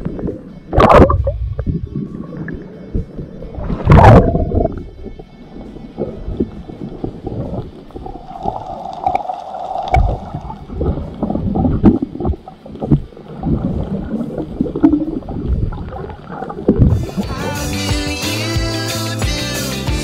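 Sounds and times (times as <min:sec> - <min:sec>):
water sloshing and gurgling underwater: 0:00.0 - 0:17.2
steady hum: 0:00.0 - 0:17.7.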